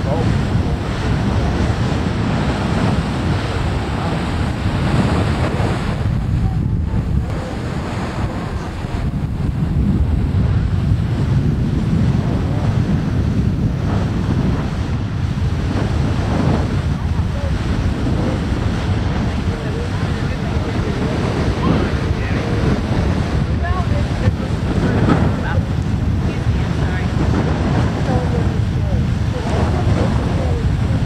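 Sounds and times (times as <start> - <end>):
geyser water jet roaring: 0.0 - 31.0
wind buffeting microphone: 0.0 - 31.0.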